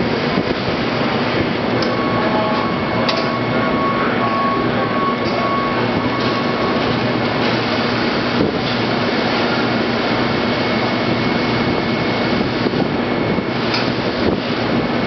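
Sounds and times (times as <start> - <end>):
industrial machinery drone: 0.0 - 15.0.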